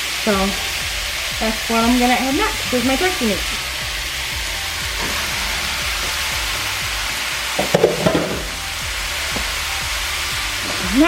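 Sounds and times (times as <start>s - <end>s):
background music: 0.0s - 11.0s
vegetables sizzling in a pan: 0.0s - 11.0s.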